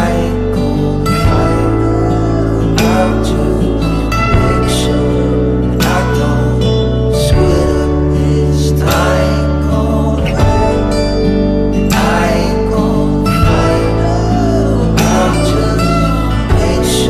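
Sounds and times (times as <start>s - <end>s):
acoustic guitar folk song: 0.0s - 17.0s.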